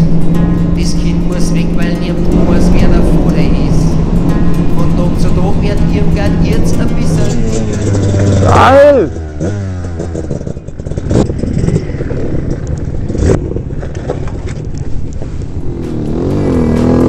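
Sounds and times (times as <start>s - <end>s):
dirt bike engine revving: 0.0s - 14.5s, 15.5s - 17.0s.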